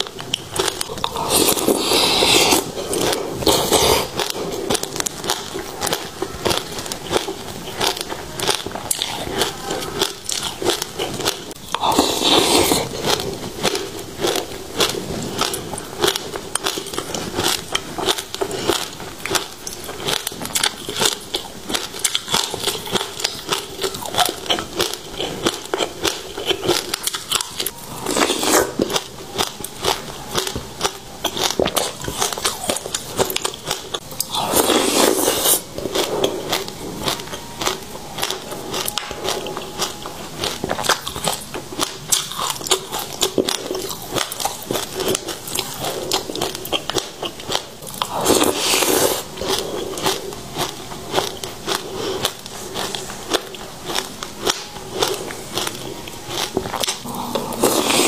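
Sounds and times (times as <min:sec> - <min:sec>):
seeds being chewed crunching: 0:00.0 - 0:58.0.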